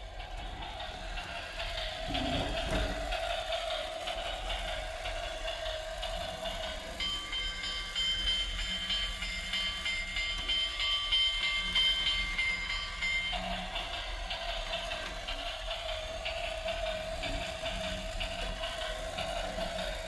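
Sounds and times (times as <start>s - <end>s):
toy train motor whirring: 0.0s - 20.0s.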